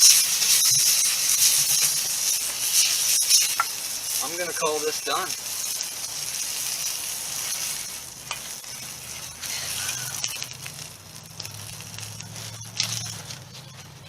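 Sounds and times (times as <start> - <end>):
food sizzling in a pan: 0.0 - 14.0
small crackles: 0.0 - 14.0.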